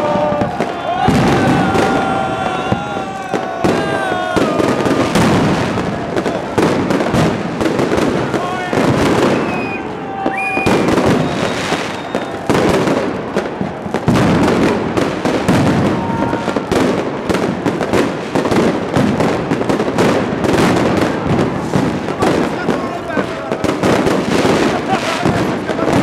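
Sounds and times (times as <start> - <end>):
fireworks bursting and crackling: 0.0 - 26.0
fireworks whistling: 0.0 - 26.0.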